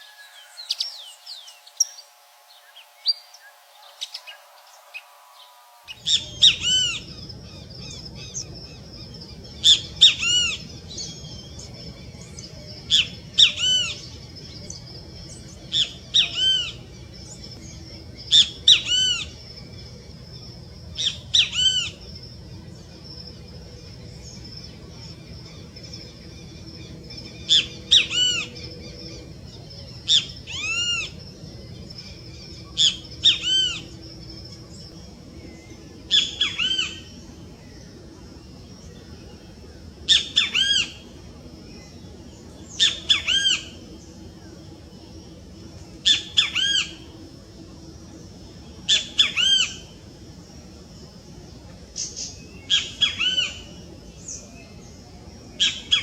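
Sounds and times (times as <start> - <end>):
faint steady high tone: 0.0 - 56.0
songbird calling: 0.0 - 56.0.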